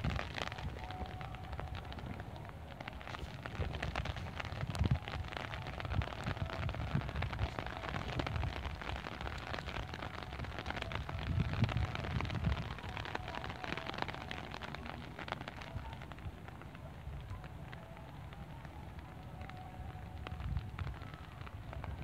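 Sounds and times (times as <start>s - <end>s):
rain pattering on umbrella: 0.0s - 22.0s
wind rumble on microphone: 0.0s - 22.0s.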